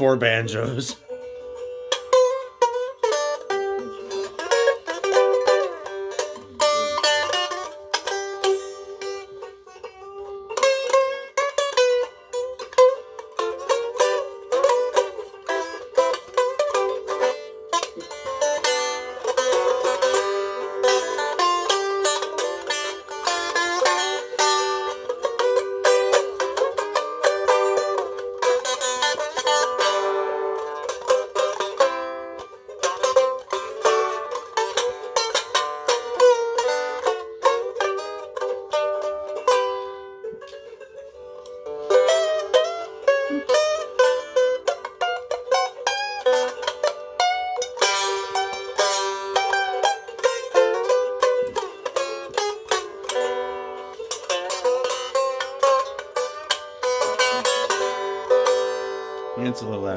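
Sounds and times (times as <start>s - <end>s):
banjo picking: 0.0s - 59.9s.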